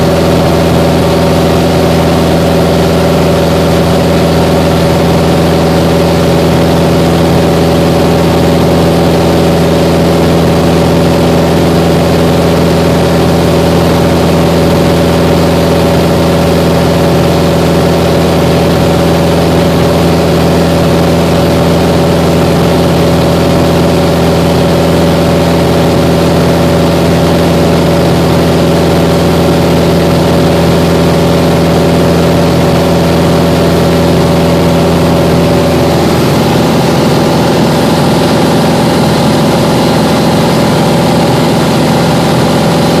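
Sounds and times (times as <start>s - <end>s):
plane engine droning: 0.0s - 43.0s.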